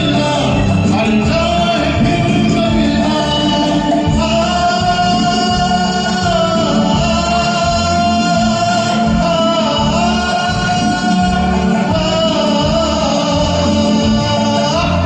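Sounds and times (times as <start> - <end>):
karaoke backing track: 0.0 - 15.0
man singing: 0.0 - 15.0.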